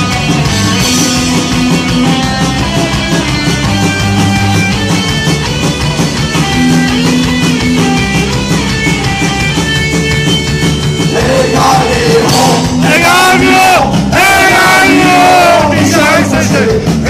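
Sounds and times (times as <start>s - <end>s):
punk rock band playing live: 0.0s - 17.0s.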